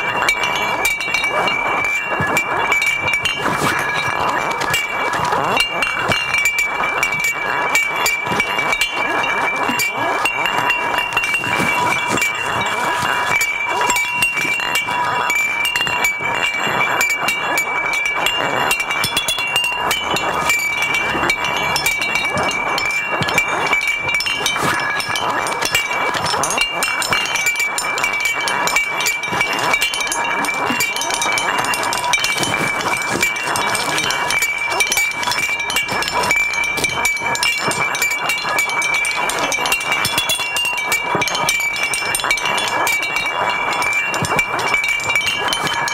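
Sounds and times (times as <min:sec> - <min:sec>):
clinking and rattling waste: 0:00.0 - 0:45.9
steady ringing tones: 0:00.0 - 0:45.9.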